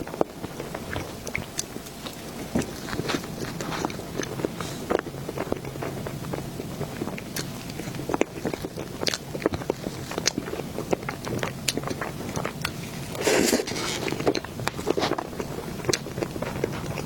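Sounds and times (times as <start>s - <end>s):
food crunch: 0.0s - 17.0s
person chewing food: 0.0s - 17.0s.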